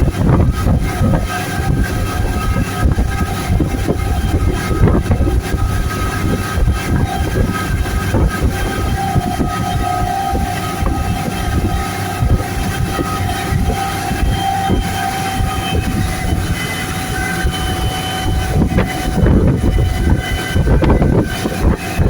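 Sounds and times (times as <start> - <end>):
motorboat engine running: 0.0 - 22.0
wind buffeting microphone: 0.0 - 22.0.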